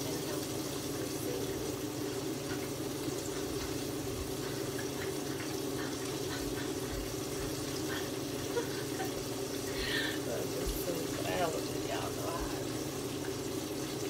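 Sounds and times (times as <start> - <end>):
fish sizzling in grease: 0.0 - 14.0
grease popping: 0.0 - 14.0.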